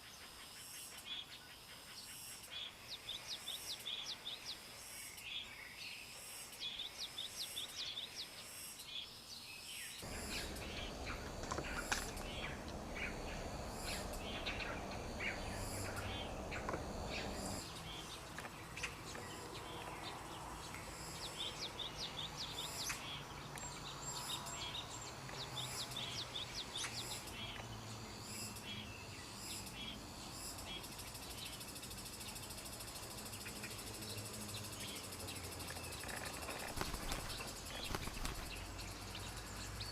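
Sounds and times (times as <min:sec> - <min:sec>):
birds chirping: 0:00.0 - 0:39.9
outdoor background hiss: 0:00.0 - 0:39.9.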